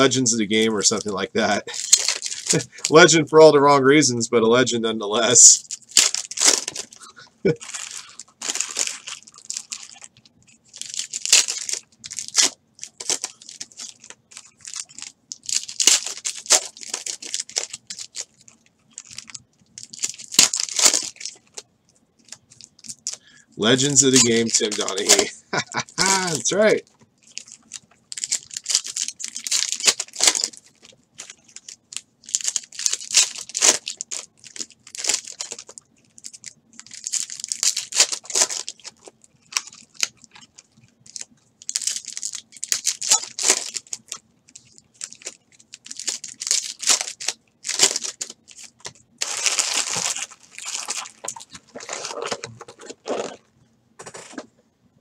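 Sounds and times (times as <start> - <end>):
foil wrappers tearing and crinkling: 0.0 - 3.1, 5.2 - 21.6, 22.2 - 53.5.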